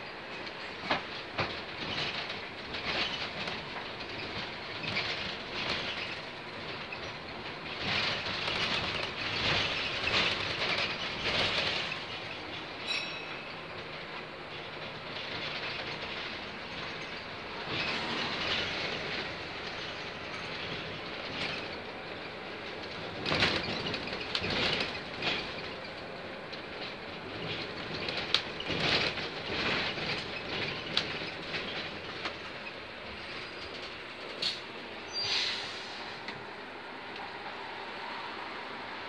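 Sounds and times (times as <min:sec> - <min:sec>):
rattles and knocks from bus body: 0:00.0 - 0:34.9
bus engine and road noise: 0:00.0 - 0:39.0.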